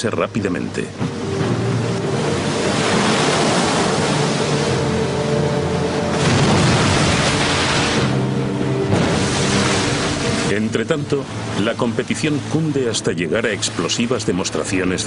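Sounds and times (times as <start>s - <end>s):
background music of held notes: 0.0s - 15.0s
seawater rushing and splashing: 0.0s - 15.0s.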